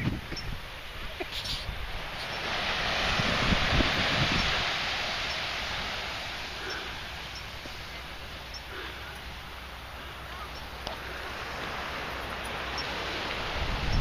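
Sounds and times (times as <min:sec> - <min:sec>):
distant surf: 0:00.0 - 0:14.0
wind hissing: 0:00.0 - 0:14.0.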